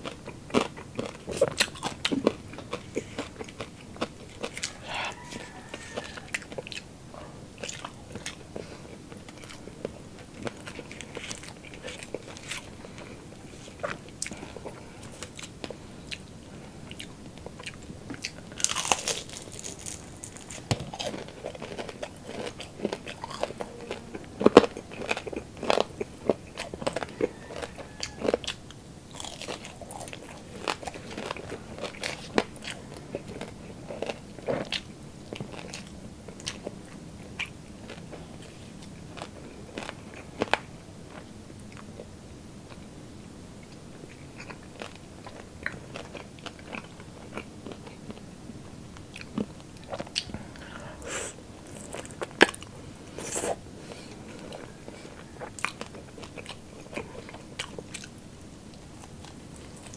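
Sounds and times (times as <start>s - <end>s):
crunchy chewing: 0.0s - 42.9s, 43.6s - 59.9s.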